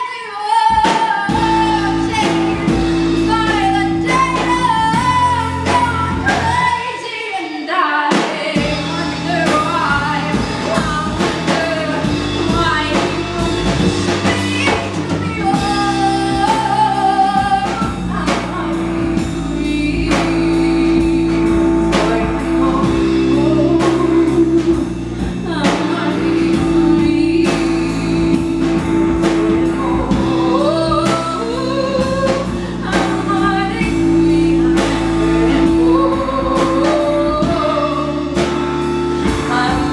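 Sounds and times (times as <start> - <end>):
drums: 0.0 - 39.9
woman singing: 0.0 - 39.9
electric bass: 0.8 - 6.9, 8.6 - 39.9.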